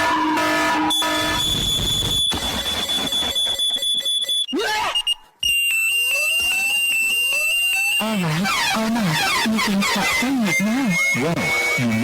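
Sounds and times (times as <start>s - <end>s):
high electronic alarm tone: 0.8s - 12.0s.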